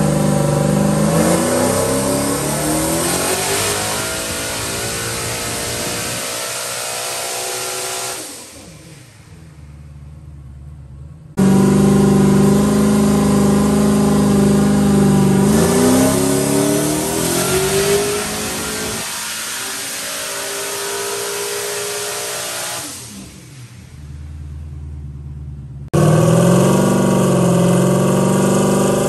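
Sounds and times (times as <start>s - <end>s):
loud engine revving: 0.0s - 9.8s, 11.3s - 25.0s, 25.8s - 29.0s.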